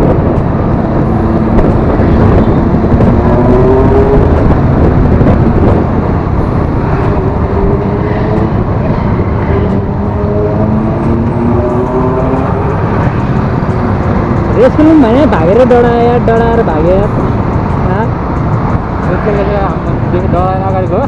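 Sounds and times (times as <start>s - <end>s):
motorcycle engines accelerating: 0.0s - 21.0s
wind rumble on microphone: 0.0s - 21.0s.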